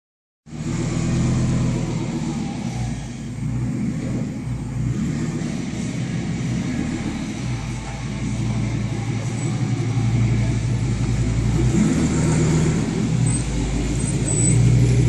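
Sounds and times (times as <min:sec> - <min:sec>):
motorhome engine raw exhaust: 0:00.4 - 0:15.0.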